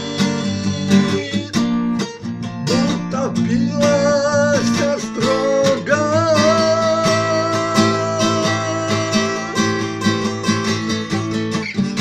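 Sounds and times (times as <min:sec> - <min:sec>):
man singing: 0:00.0 - 0:11.1
acoustic guitar strumming: 0:00.0 - 0:12.0.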